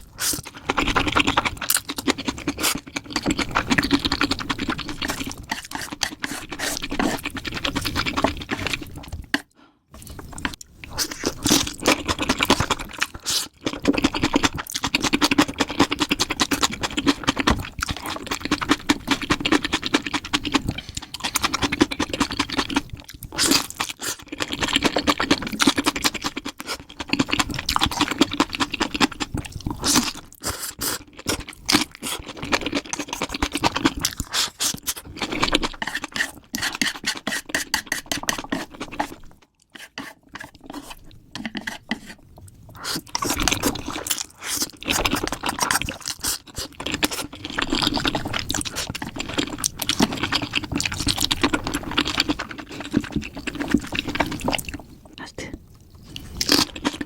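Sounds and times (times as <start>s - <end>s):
crunching and chewing: 0.0s - 54.9s, 55.8s - 57.0s.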